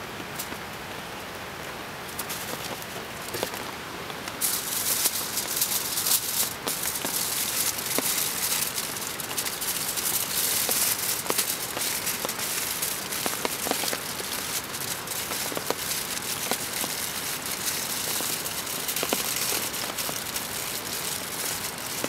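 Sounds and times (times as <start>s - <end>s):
rain pattering: 0.0s - 22.0s
aluminium foil crinkling: 2.0s - 22.0s.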